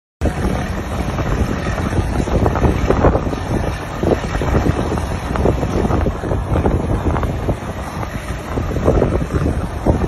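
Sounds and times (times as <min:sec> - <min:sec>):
crane engines rumbling: 0:00.2 - 0:10.0
wind buffeting microphone: 0:00.2 - 0:10.0.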